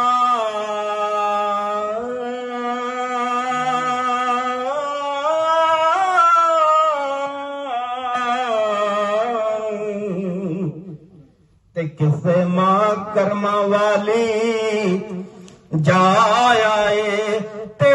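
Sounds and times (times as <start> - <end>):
man singing long held notes: 0.0 - 17.9.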